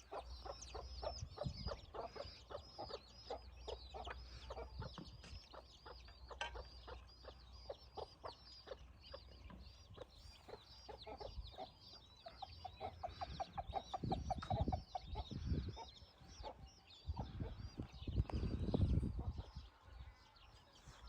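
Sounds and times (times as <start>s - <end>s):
bird clucking notes: 0.0s - 19.6s
birds chirping: 0.0s - 21.0s.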